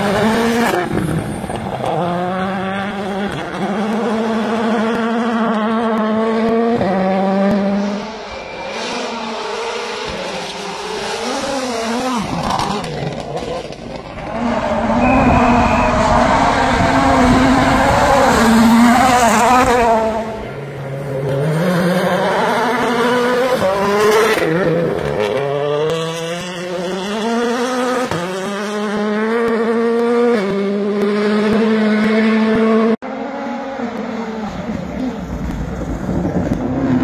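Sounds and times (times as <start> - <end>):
rally car engines at full throttle: 0.0 - 37.0.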